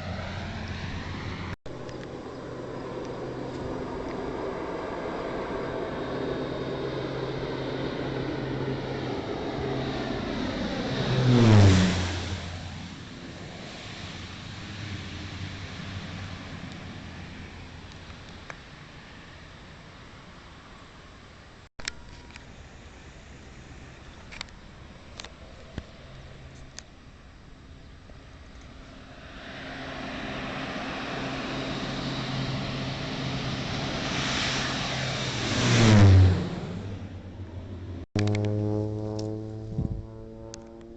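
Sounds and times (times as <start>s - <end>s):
airplane engine and propeller drone: 0.0s - 40.9s
turboprop plane approaching: 0.0s - 40.9s.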